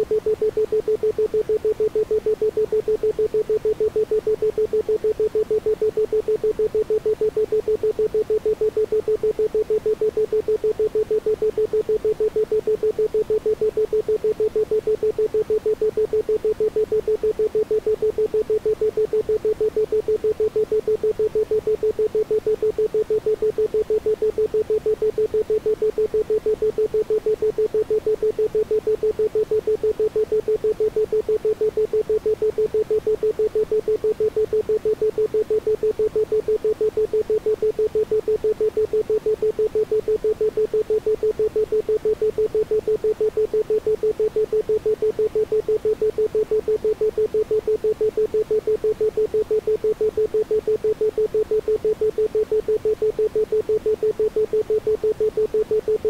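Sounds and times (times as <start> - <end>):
pulsed steady tone: 0.0 - 56.0.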